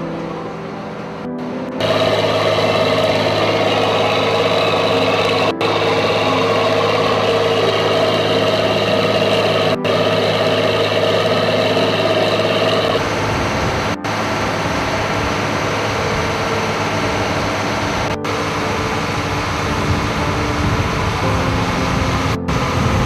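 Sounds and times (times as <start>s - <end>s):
boat engine humming: 1.8s - 23.0s.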